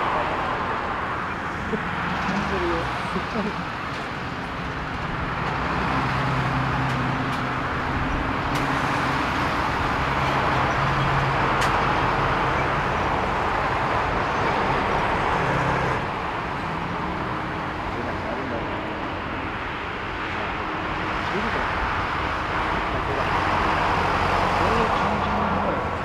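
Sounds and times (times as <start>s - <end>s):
jet engines taxiing: 0.0s - 26.0s.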